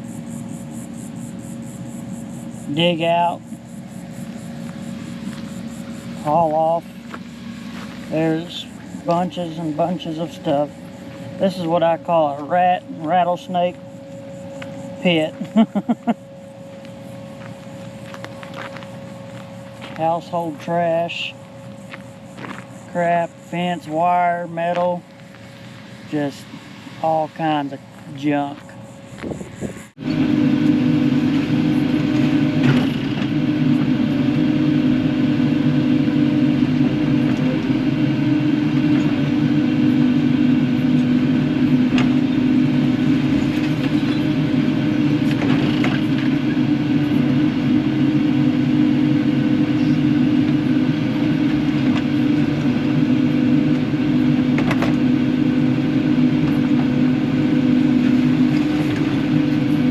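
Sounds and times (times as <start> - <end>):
excavator diesel engine droning: 0.0 - 59.9.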